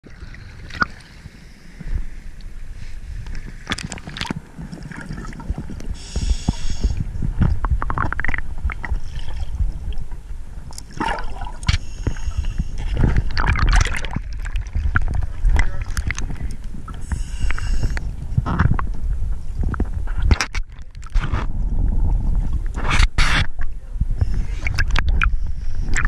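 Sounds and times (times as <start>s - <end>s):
water sloshing and gurgling: 0.0s - 26.0s
low rumble: 0.1s - 26.0s.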